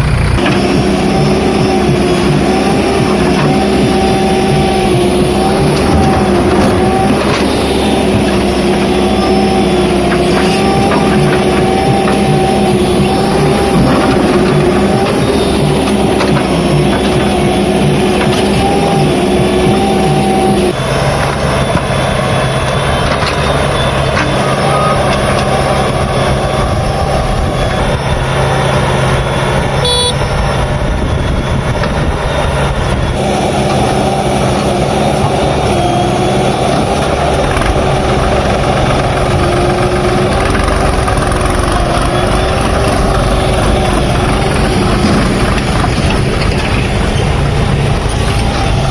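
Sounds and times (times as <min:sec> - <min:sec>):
diesel engines running under load: 0:00.0 - 0:48.9.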